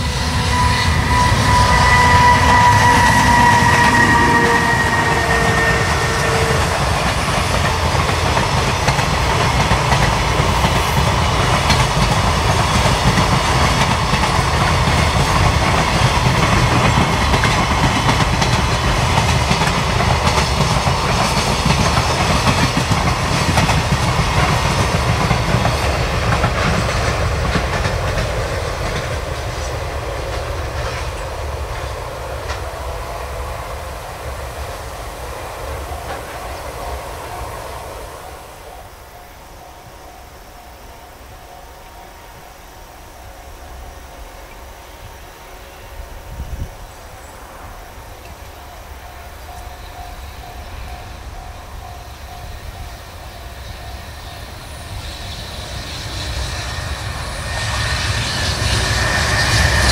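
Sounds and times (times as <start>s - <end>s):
rail joints clickety-clack: 0.0s - 59.9s
train wheels rumbling on rail: 0.0s - 59.9s.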